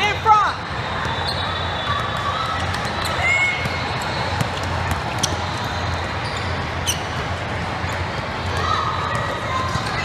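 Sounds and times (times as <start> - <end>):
sneakers squeaking: 0.0 - 10.0.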